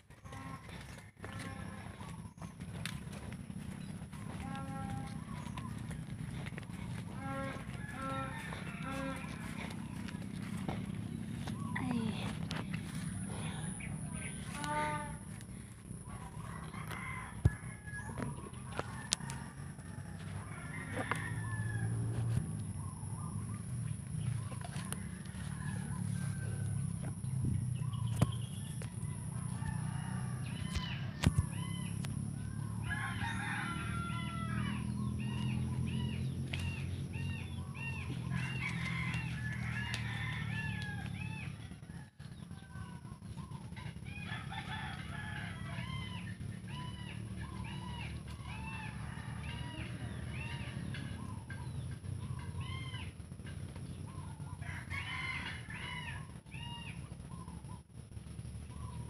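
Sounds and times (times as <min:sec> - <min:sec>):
low rumble: 0:00.0 - 0:48.6
chickens calling: 0:00.0 - 0:59.0.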